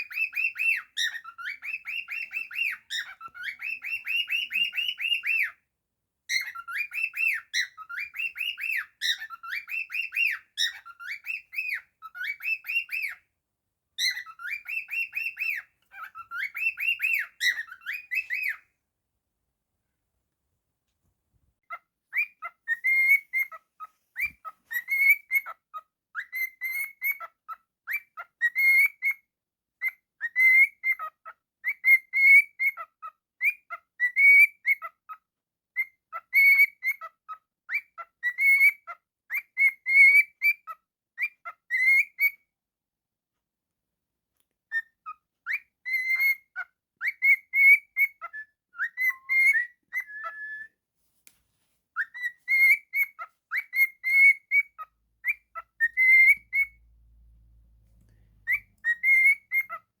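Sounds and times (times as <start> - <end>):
cockatiel whistling and chirping: 0.0 - 5.6, 6.3 - 13.2, 14.0 - 18.6, 21.7 - 42.5, 44.7 - 50.8, 52.0 - 60.0.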